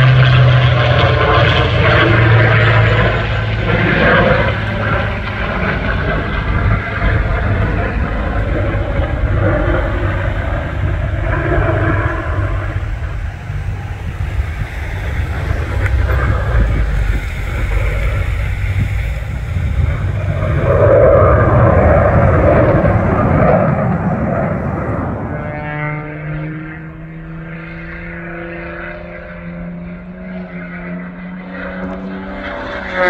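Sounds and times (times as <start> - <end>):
aircraft engine rumble: 0.0 - 33.0
wind on microphone: 1.1 - 30.9.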